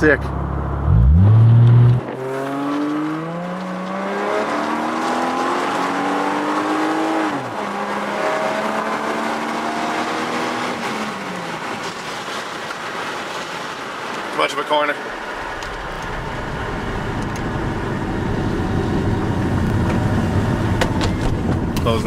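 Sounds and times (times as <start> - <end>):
car engine accelerating: 0.3 - 11.8, 15.0 - 22.0.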